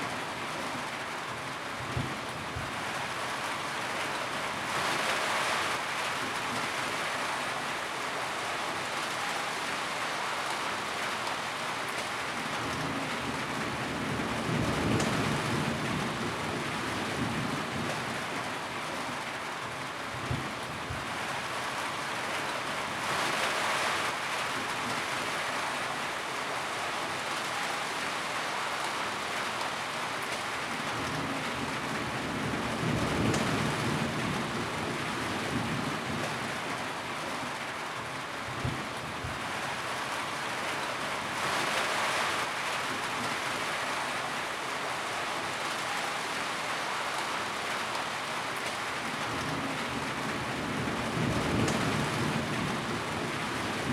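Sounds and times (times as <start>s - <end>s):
heavy rain on a tin roof: 0.0s - 53.9s.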